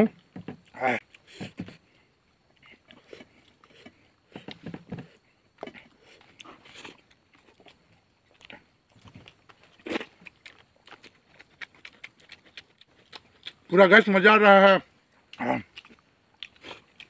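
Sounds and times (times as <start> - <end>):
man chewing with wet smacking: 0.0 - 13.8, 15.0 - 17.0.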